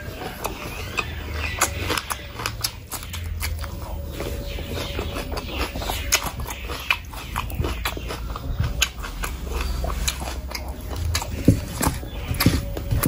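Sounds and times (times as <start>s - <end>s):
close chewing with mouth clicks: 0.0s - 13.0s
hand mixing rice wet squelch: 0.0s - 13.0s.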